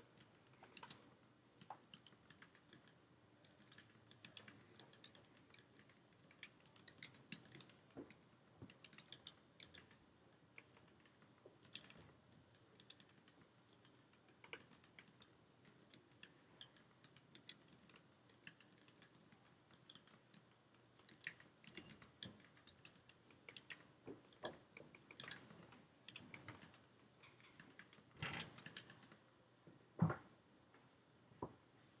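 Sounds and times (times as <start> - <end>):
typing on mechanical keyboard: 0.0 - 29.2.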